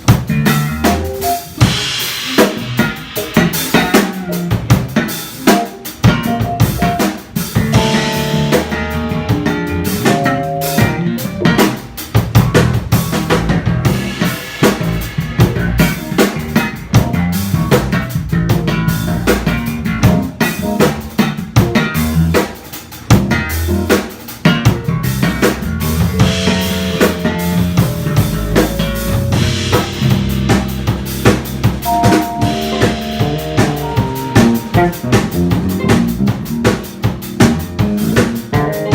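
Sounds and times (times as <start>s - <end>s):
drum kit hits: 0.0s - 38.9s
jazz combo playing: 0.0s - 38.9s.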